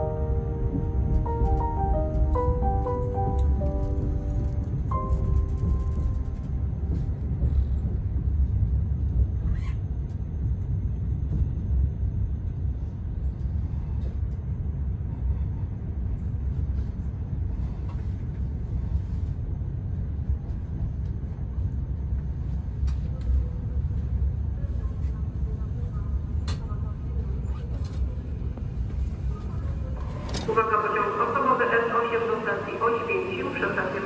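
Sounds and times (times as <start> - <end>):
low rumble of train running: 0.0 - 34.0.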